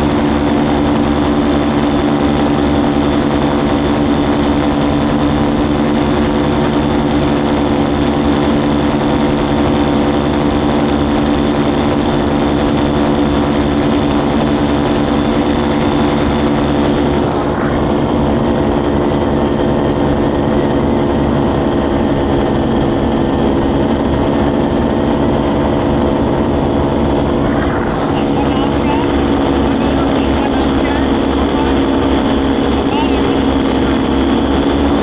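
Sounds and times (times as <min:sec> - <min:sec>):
paramotor engine and propeller: 0:00.0 - 0:35.0.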